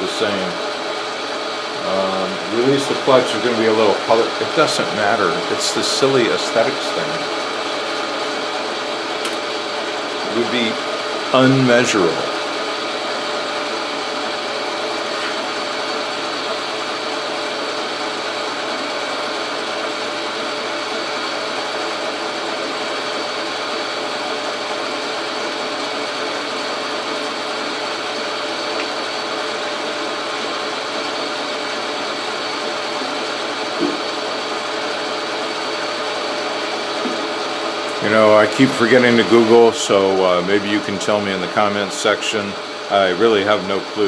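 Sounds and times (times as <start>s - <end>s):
metal lathe running: 0.0s - 44.0s.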